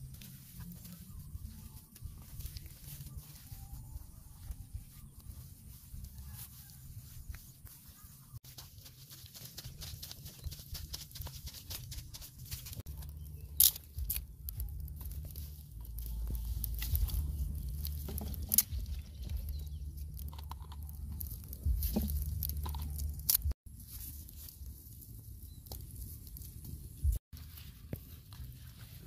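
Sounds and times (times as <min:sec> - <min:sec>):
dry straw crunching and crackling: 0:00.0 - 0:29.0.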